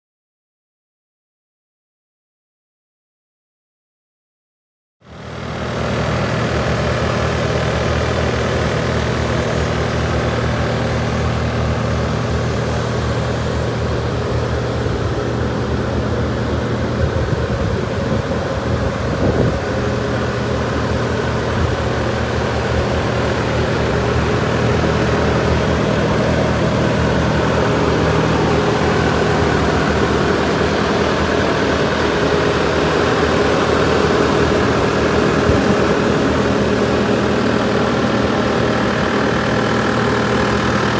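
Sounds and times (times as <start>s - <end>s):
diesel engine idling: 5.1s - 40.9s.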